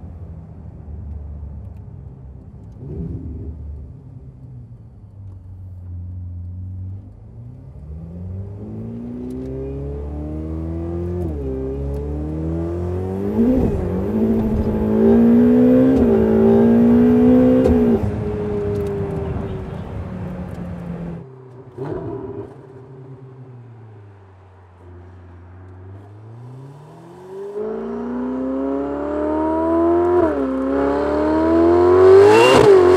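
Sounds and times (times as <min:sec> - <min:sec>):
car engine accelerating: 0:02.4 - 0:32.9
engine rev: 0:02.6 - 0:04.5, 0:06.5 - 0:32.9.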